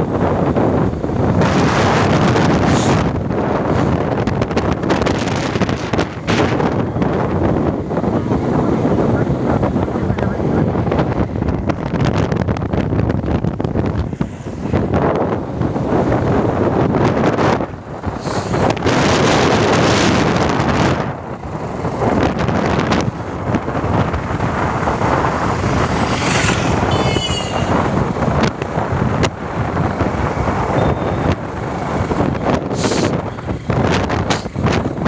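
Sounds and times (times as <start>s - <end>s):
vehicle and road noise: 0.0s - 35.0s
wind buffeting microphone: 0.0s - 35.0s.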